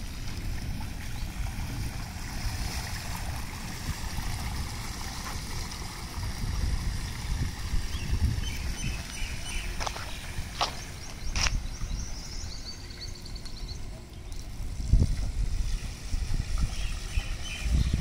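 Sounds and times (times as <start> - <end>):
water sloshing around tyres: 0.0 - 18.0.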